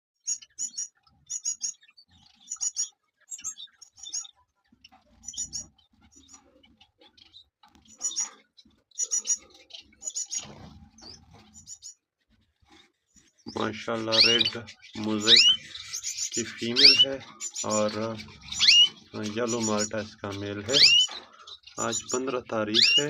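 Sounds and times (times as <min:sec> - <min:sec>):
canaries chirping: 0:00.2 - 0:23.0.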